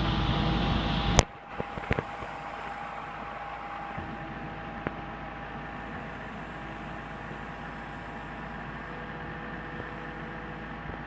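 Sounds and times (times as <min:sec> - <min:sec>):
excavator engine running: 0:00.0 - 0:11.0
faint steady whine: 0:00.0 - 0:11.0.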